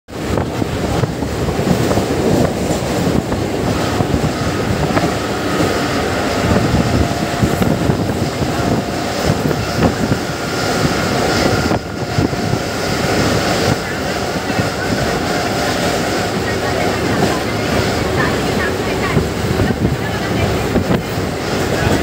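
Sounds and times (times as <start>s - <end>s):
train wheels rumbling on rails: 0.1s - 22.0s
wind: 0.1s - 22.0s.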